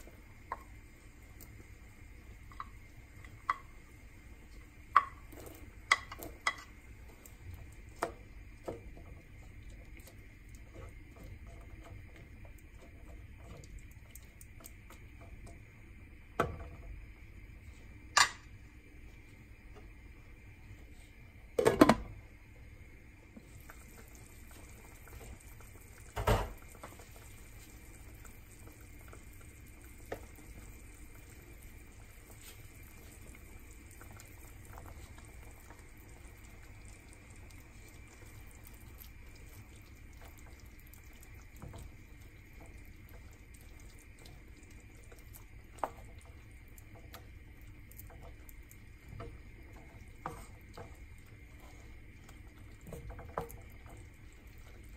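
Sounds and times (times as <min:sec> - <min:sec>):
broth bubbling in a pan: 0:00.0 - 0:54.9.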